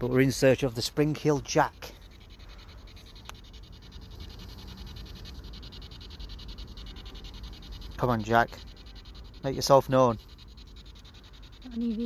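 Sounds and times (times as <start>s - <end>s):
pulsing radio static: 0.0s - 12.0s.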